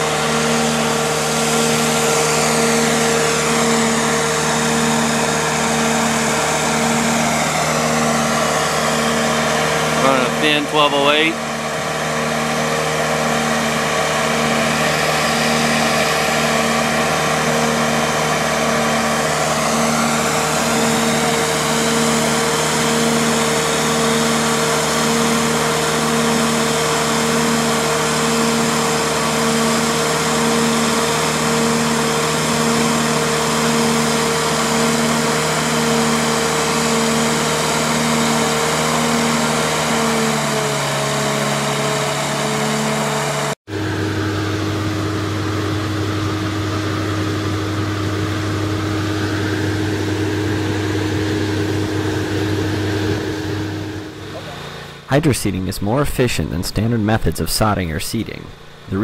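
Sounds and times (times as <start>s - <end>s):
pulsing hum: 0.0s - 55.4s
bark blower engine running: 0.0s - 59.0s
high whining note: 0.0s - 59.0s.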